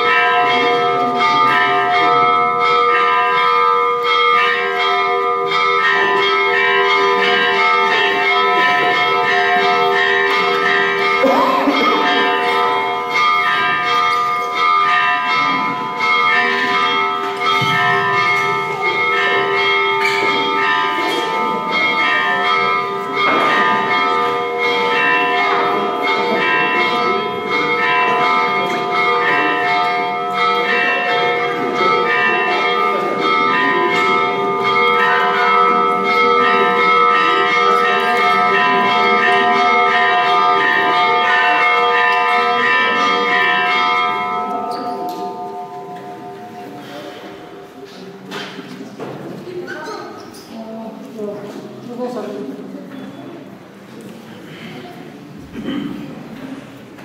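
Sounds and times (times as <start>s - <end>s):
church bells ringing: 0.0s - 49.6s.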